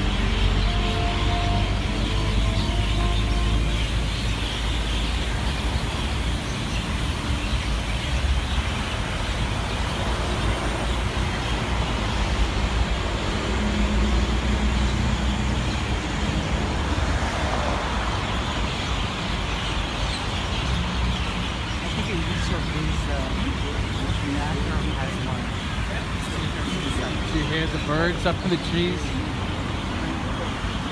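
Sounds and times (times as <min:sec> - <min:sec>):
flock of birds chattering: 0:00.0 - 0:30.9
low rumble of city traffic: 0:00.0 - 0:30.9.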